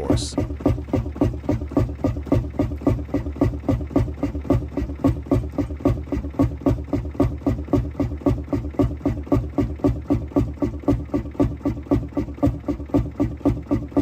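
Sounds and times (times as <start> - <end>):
semi-diesel engine running slowly: 0.0 - 14.0.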